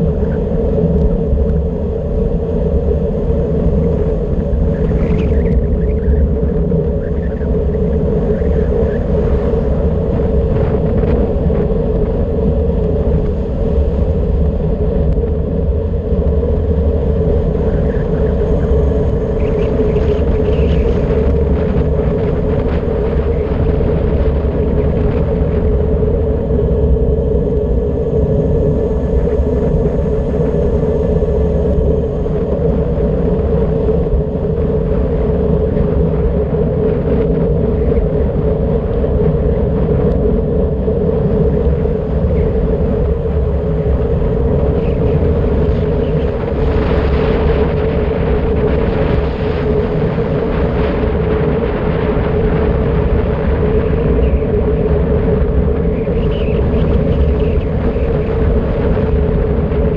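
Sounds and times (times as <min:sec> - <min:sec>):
constant hum: 0:00.0 - 0:59.9
wind rushing over microphone: 0:00.0 - 0:59.9.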